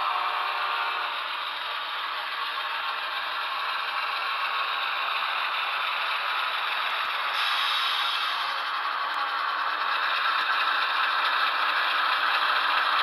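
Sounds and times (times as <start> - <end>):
model train diesel engine sound: 0.0 - 13.0.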